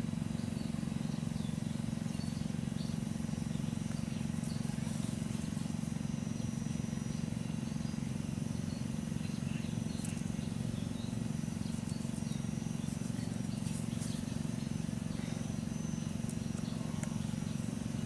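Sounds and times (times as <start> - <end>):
insects: 0.0 - 18.0
steady low hum: 0.0 - 18.0
faint bird chirps: 0.3 - 18.0.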